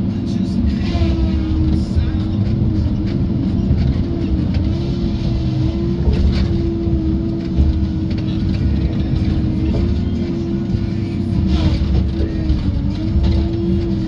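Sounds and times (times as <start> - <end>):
diesel engine and hydraulics running: 0.0 - 14.0.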